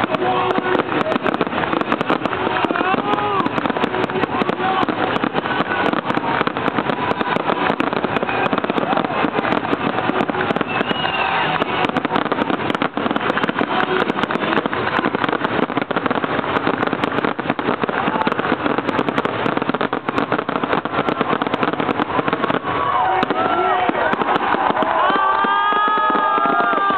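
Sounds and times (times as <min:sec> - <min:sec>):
fireworks crackling and banging: 0:00.0 - 0:26.9
people's voices: 0:00.0 - 0:26.9.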